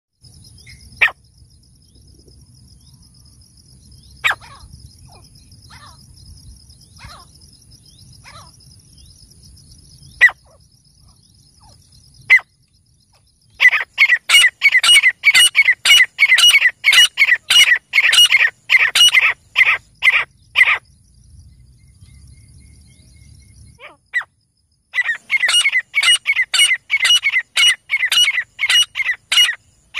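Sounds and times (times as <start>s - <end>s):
francolin calling: 0.3s - 2.1s, 2.7s - 21.0s, 21.8s - 29.9s.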